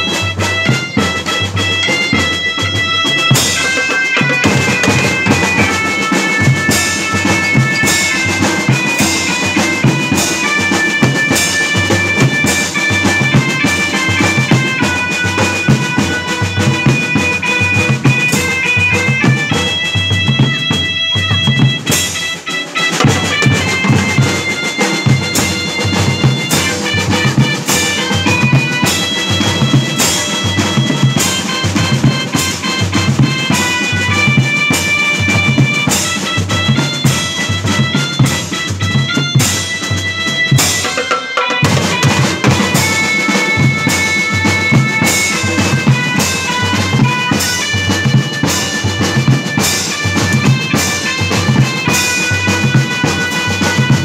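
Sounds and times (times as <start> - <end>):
marching snare drums: 0.0 - 54.0
melodica melody: 0.0 - 54.0.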